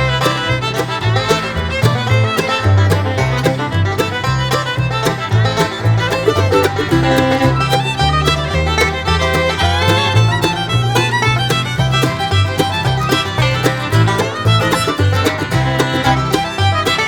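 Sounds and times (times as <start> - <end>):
upbeat bluegrass music: 0.0 - 17.0.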